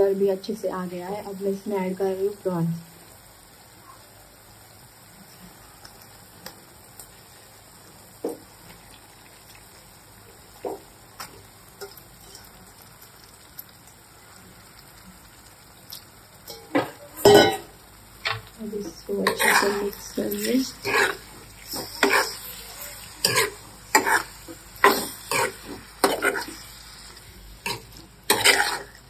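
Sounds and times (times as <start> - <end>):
prawns sizzling in oil: 0.0 - 29.0.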